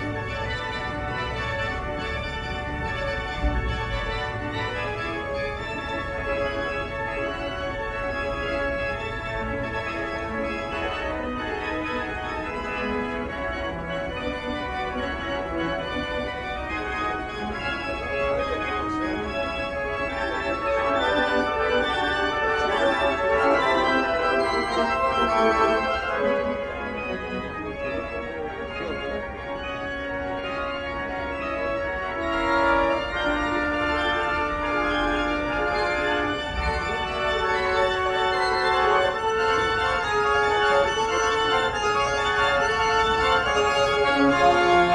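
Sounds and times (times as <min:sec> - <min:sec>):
organ playing sustained chords: 0:00.0 - 0:44.9.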